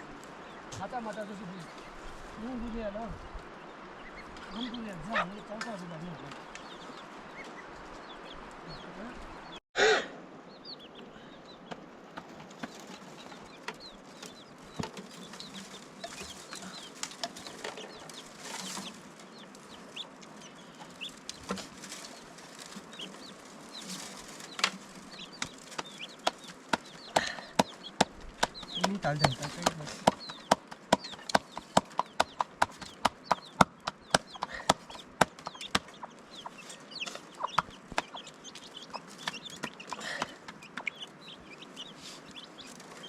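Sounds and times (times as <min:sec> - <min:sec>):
chickens clucking: 0:00.0 - 0:43.0.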